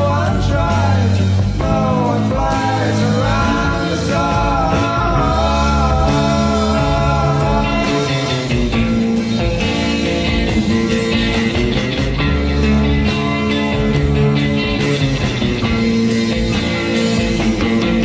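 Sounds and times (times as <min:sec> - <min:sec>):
rock music: 0:00.0 - 0:18.0
steady drum beat: 0:00.0 - 0:18.0
sustained bass: 0:00.0 - 0:18.0.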